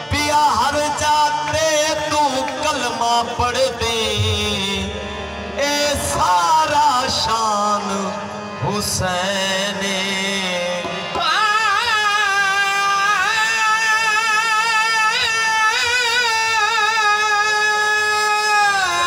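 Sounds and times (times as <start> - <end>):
man singing with vibrato: 0.0 - 19.0.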